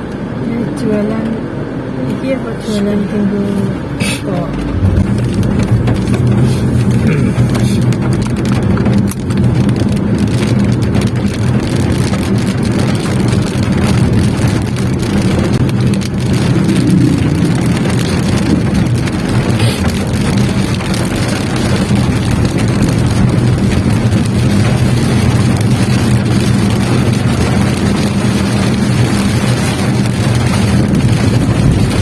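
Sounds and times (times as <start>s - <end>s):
car engine hum: 0.0s - 32.0s
light rain on a car: 0.0s - 32.0s.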